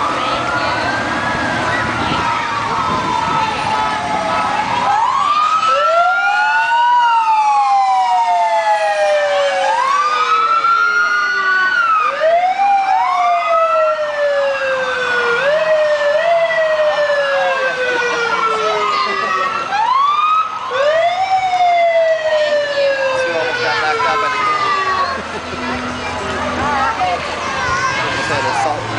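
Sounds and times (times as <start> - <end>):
ambulance sirens wailing: 0.0 - 28.9.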